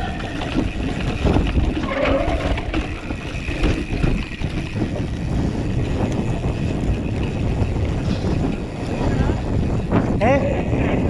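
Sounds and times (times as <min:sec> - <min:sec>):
rumble of riding on rough ground: 0:00.0 - 0:11.0
wind buffeting microphone: 0:00.0 - 0:11.0.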